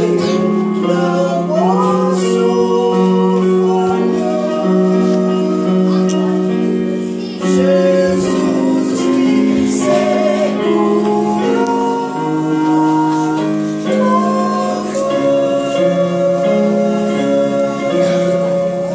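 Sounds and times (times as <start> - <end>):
women singing: 0.0 - 6.5, 7.4 - 18.9
electronic keyboard held notes: 0.0 - 18.9.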